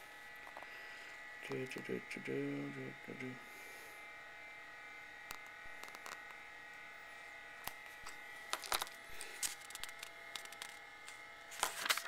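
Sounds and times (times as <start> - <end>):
computer fan and drive whine: 0.0 - 12.0.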